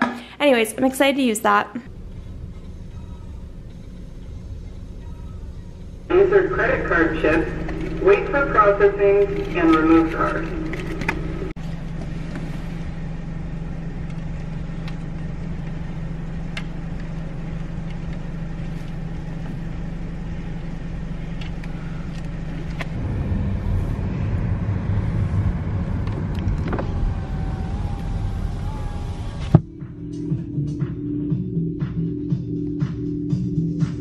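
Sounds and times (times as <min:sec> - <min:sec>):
car pulling away: 0:01.9 - 0:29.7
car engine idling: 0:01.9 - 0:31.2.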